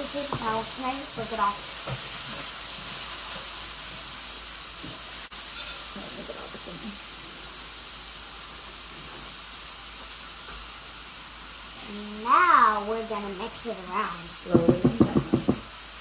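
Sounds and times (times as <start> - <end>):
onions frying in oil: 0.0 - 16.0.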